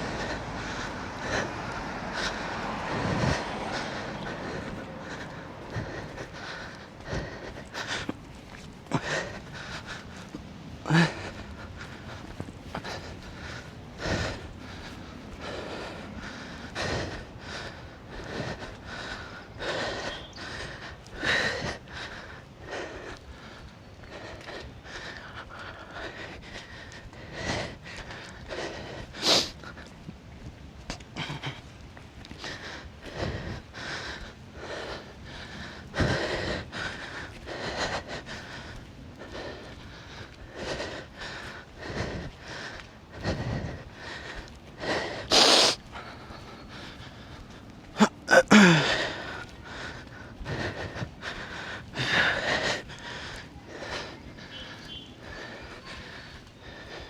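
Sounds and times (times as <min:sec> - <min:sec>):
man breathing hard: 0:00.0 - 0:57.0.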